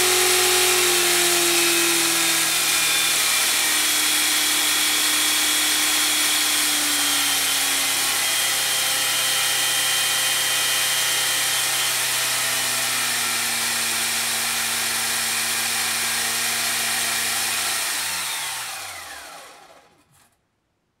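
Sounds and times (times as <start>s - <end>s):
model helicopter motor whine: 0.0s - 20.0s.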